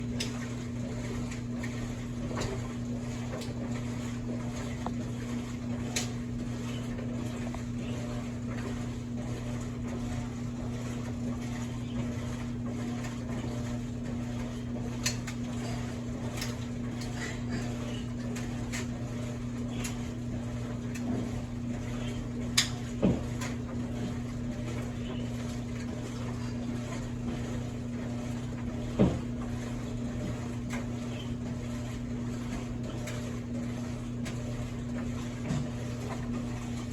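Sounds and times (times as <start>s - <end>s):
laundry machine motor hum: 0.0s - 36.9s.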